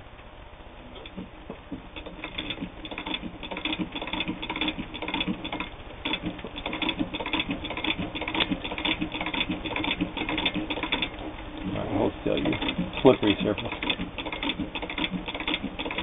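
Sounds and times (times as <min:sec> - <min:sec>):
sewing machine clacking: 0:01.9 - 0:11.7, 0:12.3 - 0:16.0.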